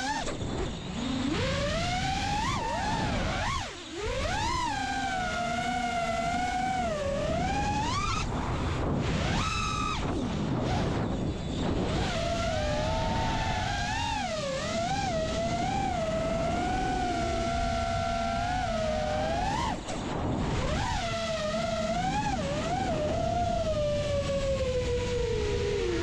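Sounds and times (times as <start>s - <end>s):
drone motors whining: 0.0s - 26.0s
rushing wind noise: 0.0s - 26.0s.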